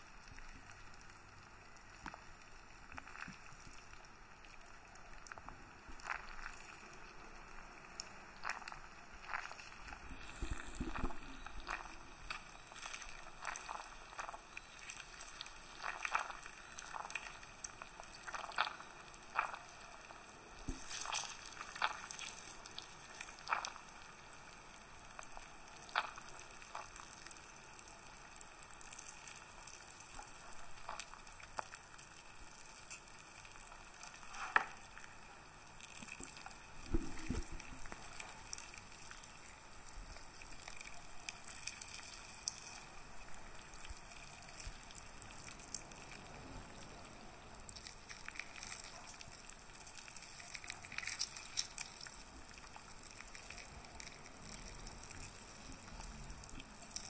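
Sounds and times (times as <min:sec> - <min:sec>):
grapefruit pulp squishing: 0:01.8 - 0:07.3, 0:08.0 - 0:57.0.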